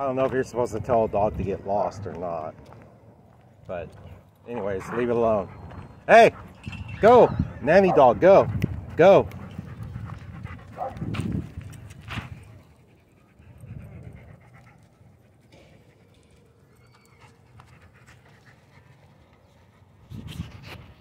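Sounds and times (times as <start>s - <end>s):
dog panting: 3.9s - 21.0s.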